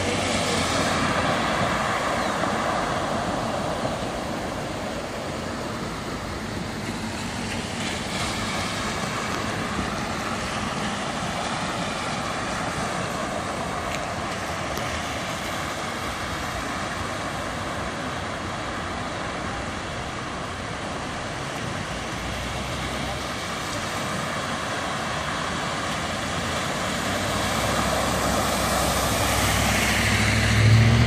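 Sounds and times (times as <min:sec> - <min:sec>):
cars splashing through floodwater: 0:00.0 - 0:31.0.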